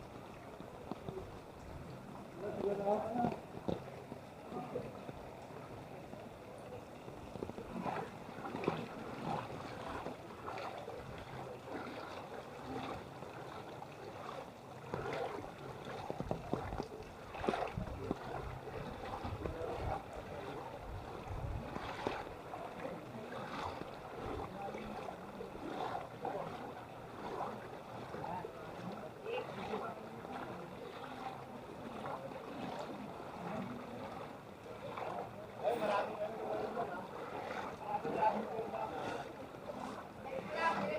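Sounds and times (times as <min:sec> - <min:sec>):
water splashing around wading legs: 0:00.0 - 0:40.9.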